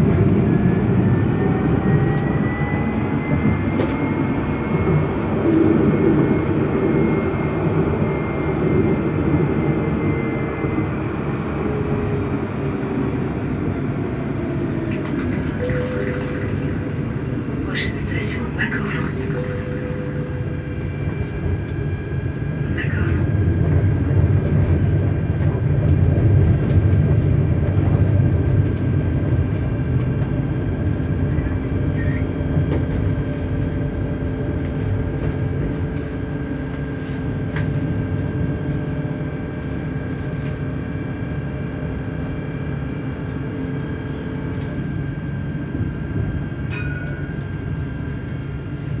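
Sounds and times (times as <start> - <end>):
tram wheels rumbling on rail: 0.0 - 49.0.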